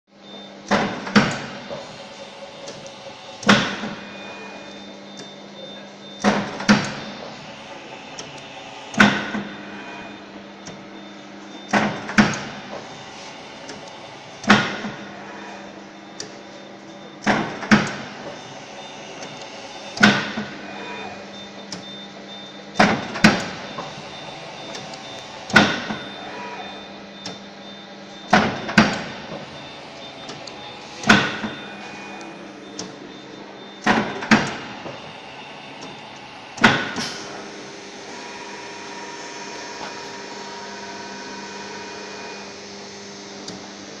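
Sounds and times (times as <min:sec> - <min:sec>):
motor humming: 0:00.2 - 0:44.0.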